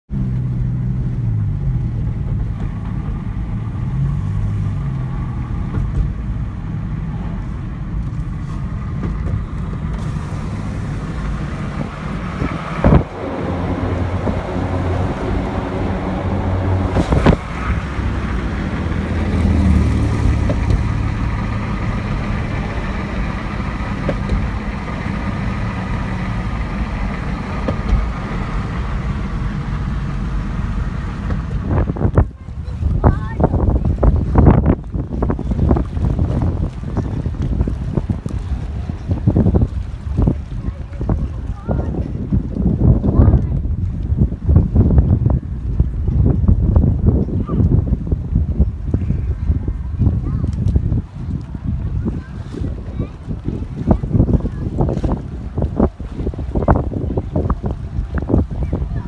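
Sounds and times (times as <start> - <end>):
car engine and road noise: 0.1 - 59.0.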